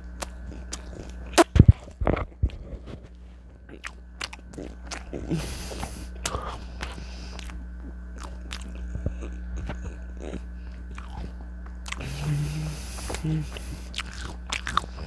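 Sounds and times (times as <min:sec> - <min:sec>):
chewing crisp chips: 0:00.0 - 0:15.0
steady low hum: 0:00.0 - 0:15.0.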